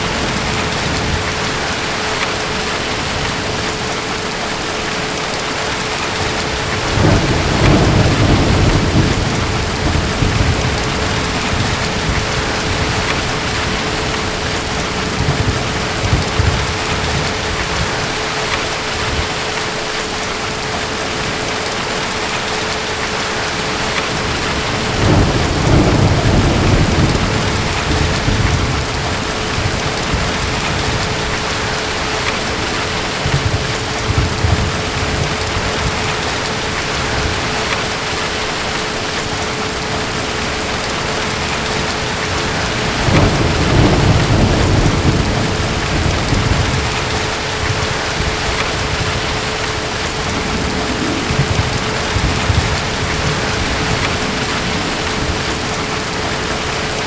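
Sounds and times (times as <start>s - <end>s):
heavy rain: 0.0s - 57.0s
distant thunder rumbling: 5.1s - 19.6s, 23.4s - 57.0s.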